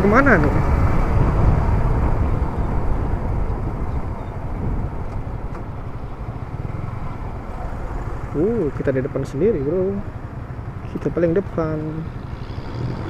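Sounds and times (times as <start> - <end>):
wind rushing over microphone: 0.0 - 10.8, 11.5 - 13.0
motorcycle engine: 0.0 - 13.0.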